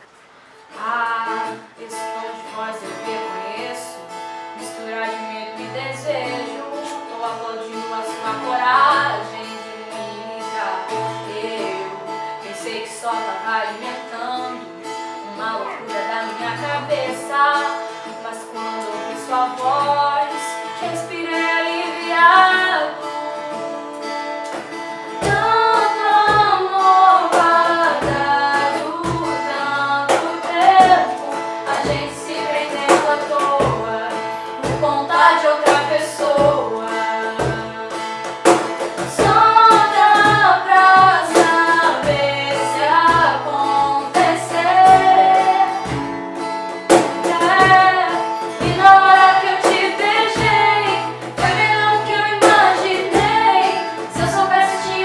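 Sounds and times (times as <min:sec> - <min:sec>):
strummed acoustic guitar: 0:00.0 - 0:55.0
women singing: 0:00.7 - 0:55.0.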